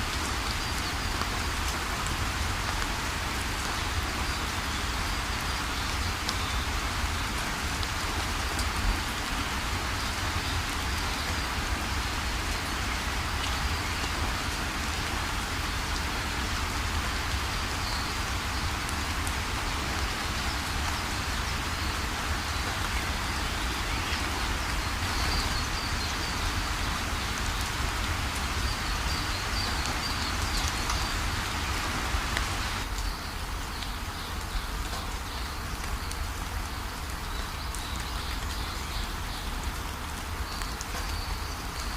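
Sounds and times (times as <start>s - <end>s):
heavy rain pouring: 0.0s - 41.9s
raindrops ticking: 0.0s - 41.9s.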